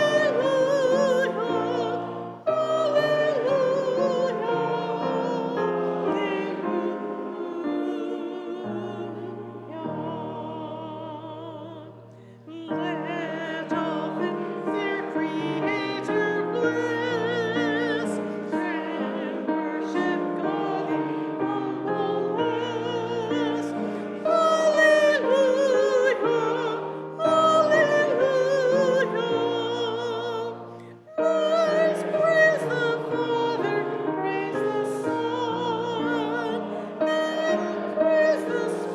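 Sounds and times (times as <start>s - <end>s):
vocal ensemble singing: 0.0s - 38.9s.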